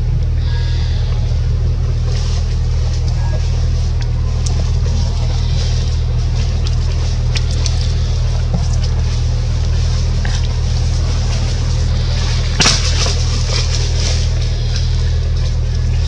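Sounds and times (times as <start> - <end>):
motor droning: 0.0 - 16.0
sharp crackle: 0.3 - 16.0.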